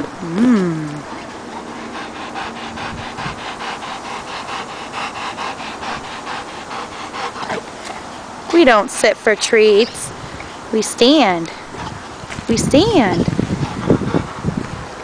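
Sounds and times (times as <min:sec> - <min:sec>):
dog panting: 0:01.1 - 0:10.1, 0:11.4 - 0:14.6.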